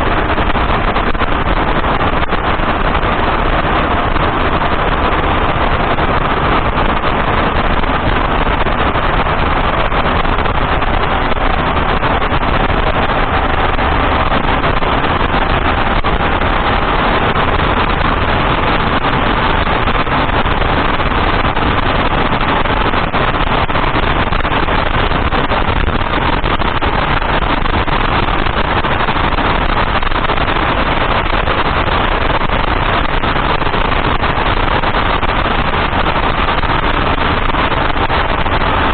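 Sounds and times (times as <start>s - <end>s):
car engine running: 0.0s - 38.9s
wind noise: 0.0s - 38.9s.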